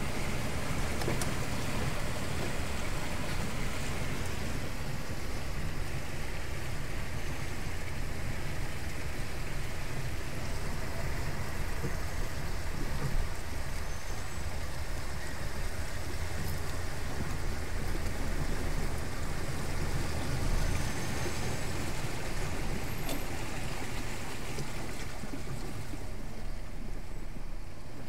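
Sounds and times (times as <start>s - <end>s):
floodwater rushing and splashing: 0.0s - 28.0s
low engine rumble: 0.0s - 28.0s.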